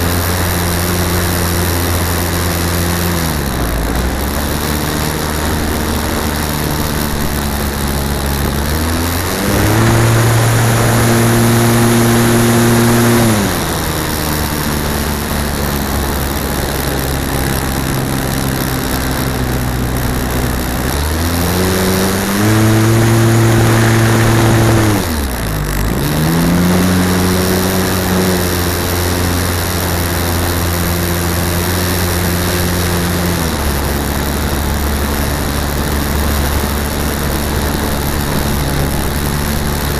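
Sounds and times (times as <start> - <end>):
model aircraft motor droning: 0.0 - 39.9
rushing air: 0.0 - 39.9.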